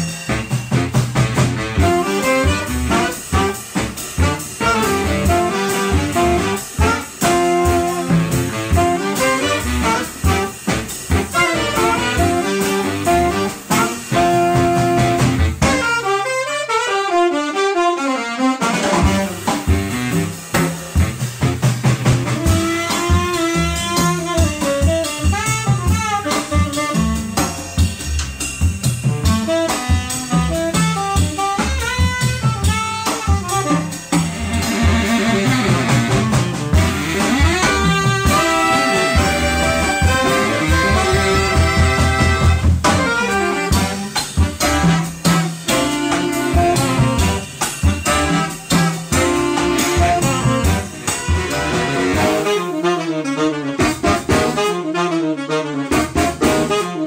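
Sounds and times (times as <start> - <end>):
upright bass: 0.0 - 16.0, 18.6 - 57.0
drum kit: 0.0 - 57.0
saxophones playing jazz: 0.0 - 57.0.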